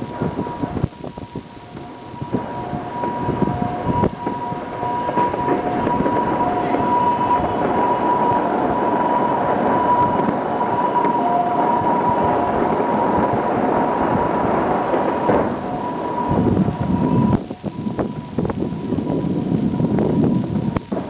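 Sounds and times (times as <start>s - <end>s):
fireworks bangs and crackling: 0.0s - 21.0s
sharp fireworks reports: 0.0s - 21.0s
steady high tone: 0.0s - 21.0s.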